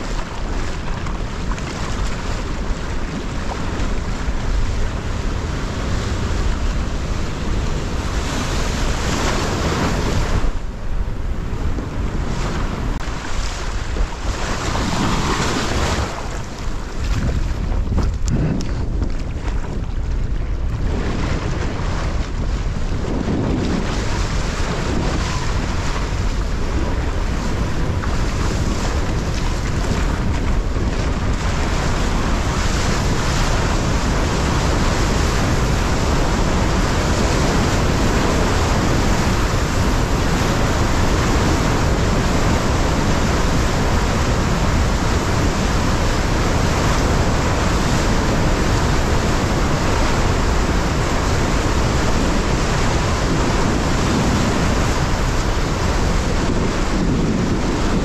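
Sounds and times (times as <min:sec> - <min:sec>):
waves and rushing water: 0:00.0 - 0:58.0
wind buffeting microphone: 0:00.0 - 0:58.0.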